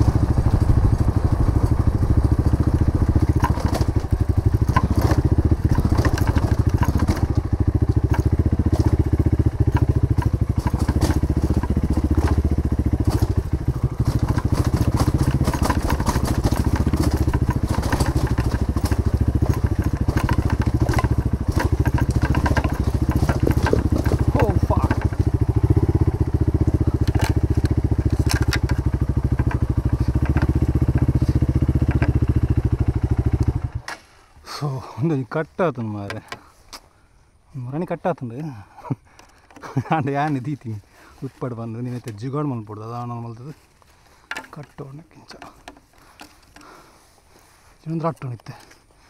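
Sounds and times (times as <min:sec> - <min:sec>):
crackling ticks: 0:00.0 - 0:33.6, 0:37.8 - 0:48.9
motorcycle engine running: 0:00.0 - 0:33.9, 0:37.6 - 0:48.7.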